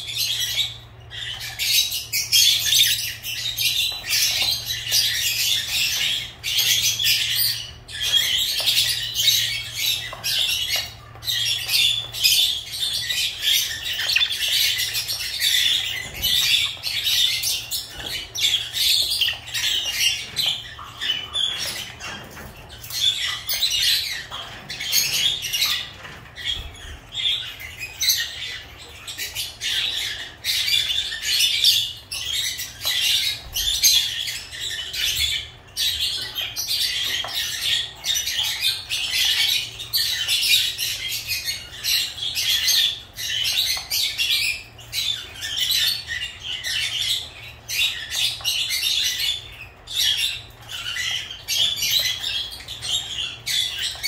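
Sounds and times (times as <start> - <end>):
birds chirping and squawking: 0.0 - 54.0.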